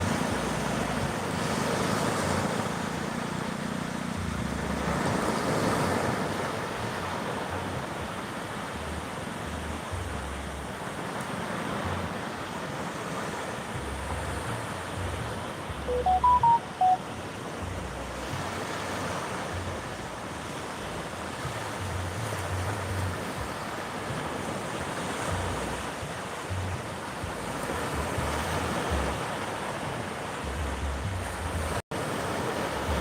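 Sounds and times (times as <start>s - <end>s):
water: 0.0s - 33.0s
wind: 0.0s - 33.0s.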